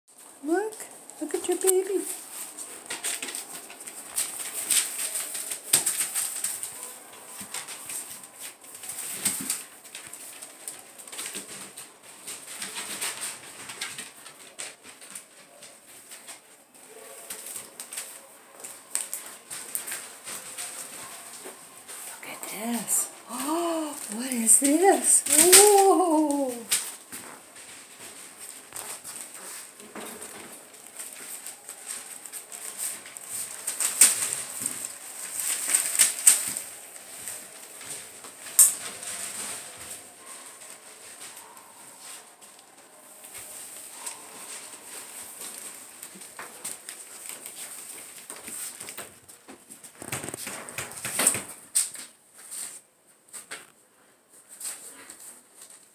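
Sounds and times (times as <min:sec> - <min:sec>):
newspaper crinkling: 0:00.2 - 0:53.8.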